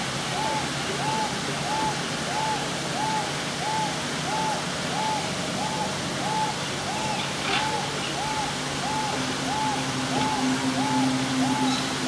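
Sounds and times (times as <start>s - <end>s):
bird hooting call: 0.3s - 12.0s.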